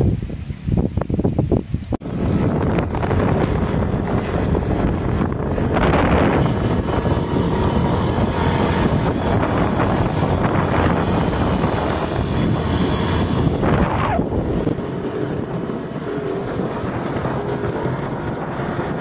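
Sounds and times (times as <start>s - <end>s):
vehicle engine rumble: 0.0s - 19.0s
wind on microphone: 0.0s - 19.0s.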